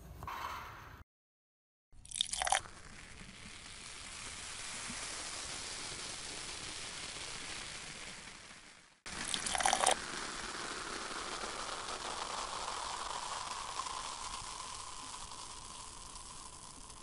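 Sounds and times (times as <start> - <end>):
liquid splashing pour: 2.0 - 17.0
fizzing hiss of foaming liquid: 2.3 - 17.0.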